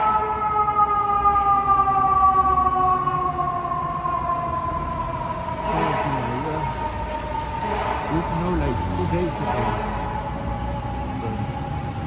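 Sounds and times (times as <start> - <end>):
emergency vehicle siren: 0.0 - 12.0
street traffic rumble: 0.0 - 12.0.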